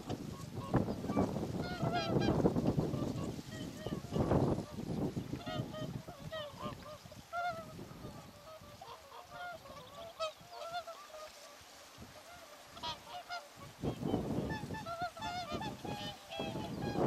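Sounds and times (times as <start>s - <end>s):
swans honking: 0.0s - 17.0s.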